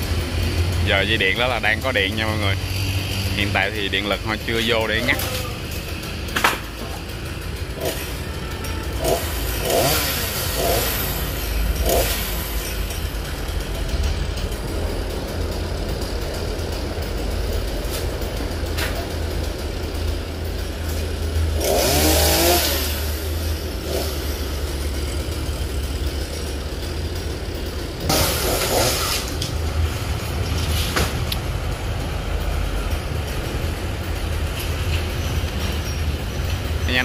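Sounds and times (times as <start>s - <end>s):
chainsaw idling and revving: 0.0s - 37.0s.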